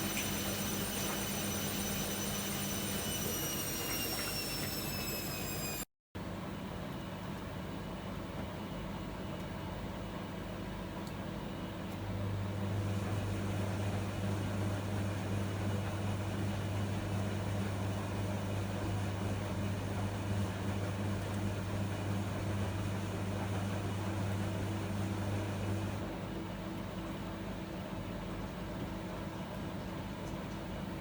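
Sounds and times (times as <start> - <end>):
washing machine humming: 0.0 - 31.0.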